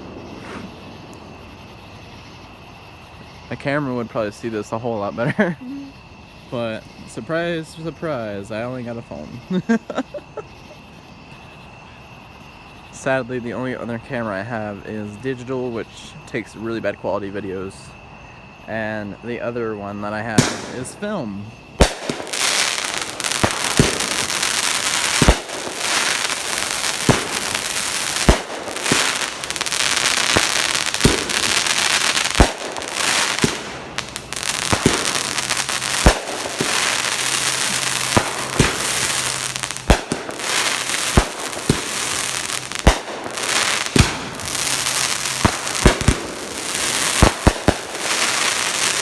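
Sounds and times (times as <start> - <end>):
fireworks crackling and banging: 0.0 - 17.8, 18.8 - 49.0.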